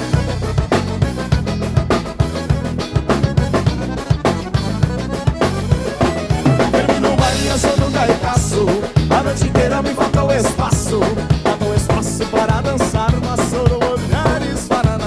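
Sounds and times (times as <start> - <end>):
band playing dance song: 0.0 - 15.0
drum kit playing fast beat: 0.0 - 15.0.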